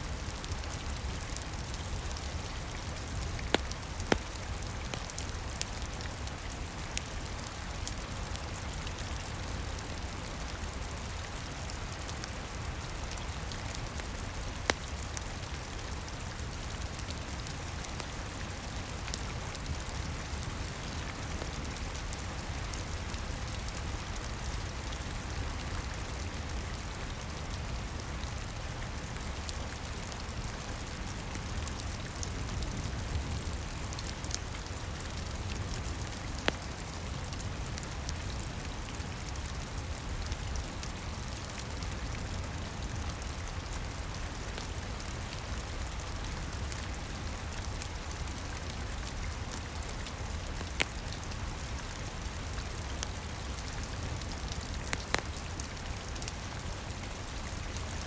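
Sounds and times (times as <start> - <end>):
rain pattering: 0.0 - 58.0
wood fire crackling: 0.1 - 25.6, 31.1 - 46.0, 46.6 - 56.8.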